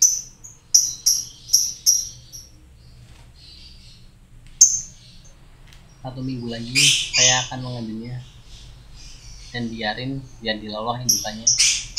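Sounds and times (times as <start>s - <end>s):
bird chirping: 0.0s - 11.9s.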